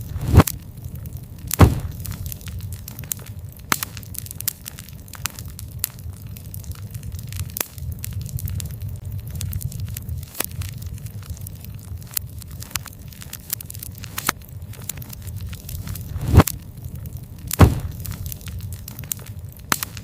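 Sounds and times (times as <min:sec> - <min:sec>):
campfire crackling and popping: 0:00.0 - 0:20.0
steady low rumble: 0:00.0 - 0:20.0.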